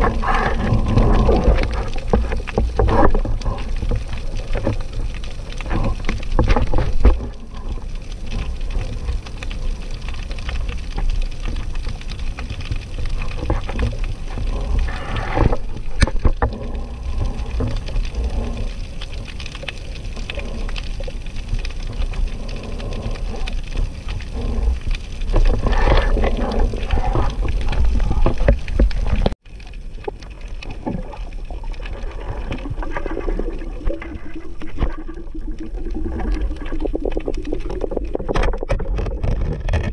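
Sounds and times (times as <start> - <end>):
underwater rumble: 0.0 - 39.9
water sloshing: 0.0 - 39.9.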